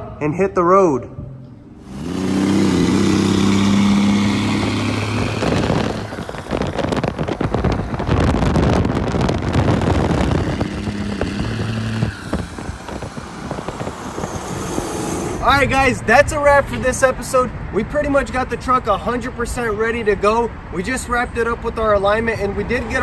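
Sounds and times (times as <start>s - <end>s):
diesel truck engine driving: 1.2s - 23.0s.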